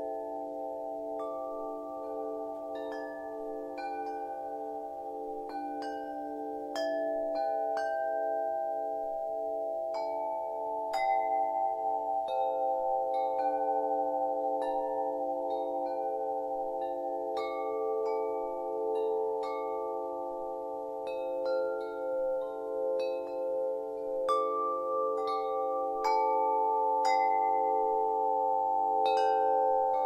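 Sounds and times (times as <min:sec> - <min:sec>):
metal chimes ringing: 0:00.0 - 0:30.0.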